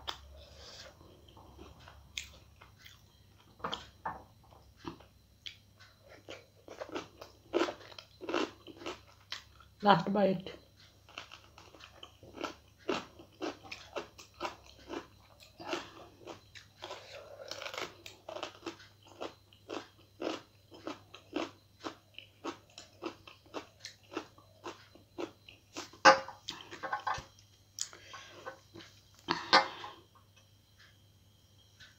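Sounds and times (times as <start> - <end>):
person chewing food: 0.0 - 9.8, 10.6 - 31.0.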